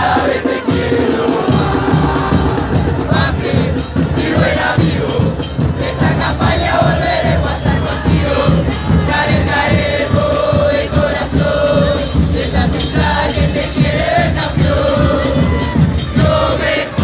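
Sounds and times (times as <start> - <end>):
crowd chanting in unison: 0.0 - 17.0
fast steady drumbeat: 0.0 - 17.0.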